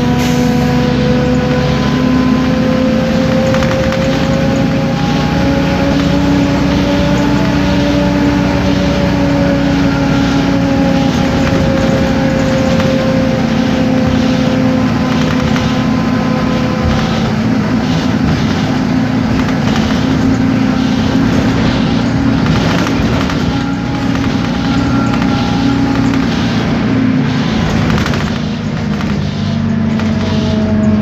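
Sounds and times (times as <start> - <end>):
diesel bus engine running: 0.0 - 31.0
higher whines: 0.0 - 31.0
thin whine: 0.0 - 31.0.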